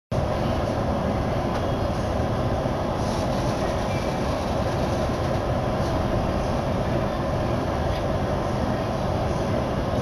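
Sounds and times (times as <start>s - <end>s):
train car rumble and hum: 0.1s - 10.0s.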